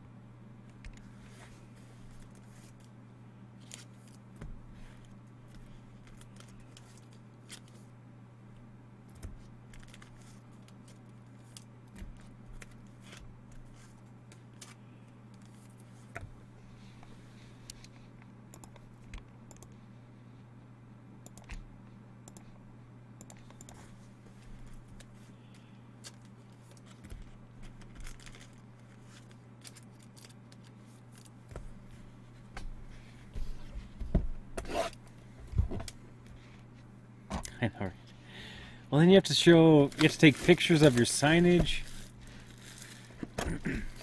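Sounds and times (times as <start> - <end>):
low electrical hum: 0.0 - 44.0.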